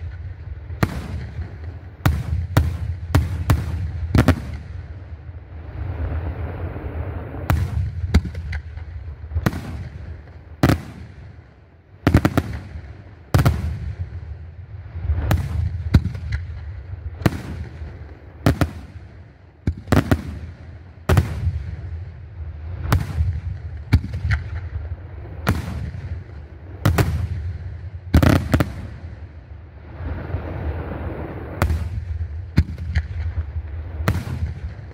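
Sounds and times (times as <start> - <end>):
fireworks bangs echoing: 0.0 - 6.3, 7.4 - 29.6, 31.5 - 34.9.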